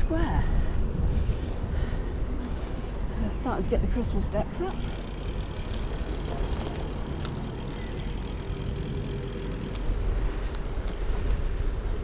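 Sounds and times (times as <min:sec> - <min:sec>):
tyres on road: 0:00.0 - 0:12.0
wind on microphone: 0:00.0 - 0:12.0.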